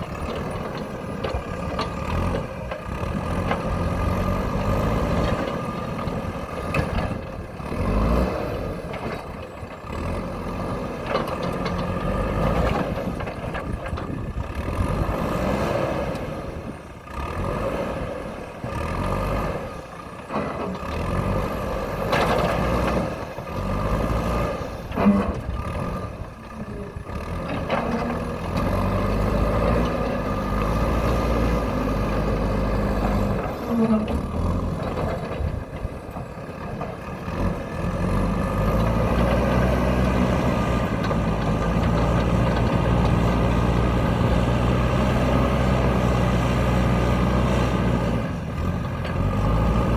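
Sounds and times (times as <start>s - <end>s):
diesel engine working under load: 0.0s - 49.9s.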